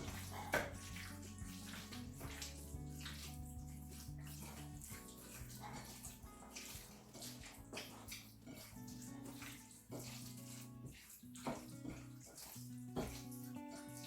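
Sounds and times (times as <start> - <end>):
hands squelching mixing chicken: 0.0 - 14.0
soft background music: 0.0 - 14.0.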